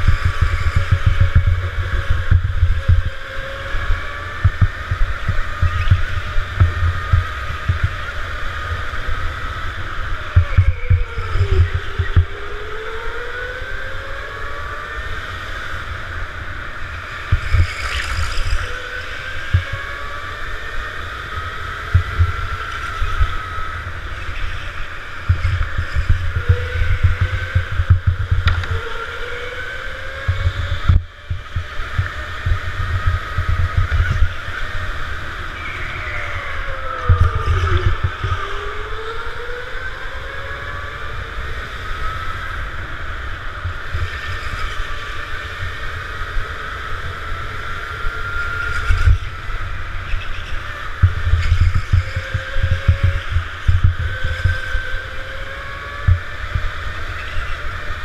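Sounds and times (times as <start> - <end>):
go-kart motor accelerating: 0.0 - 58.0
wind and vibration rumble: 0.0 - 58.0.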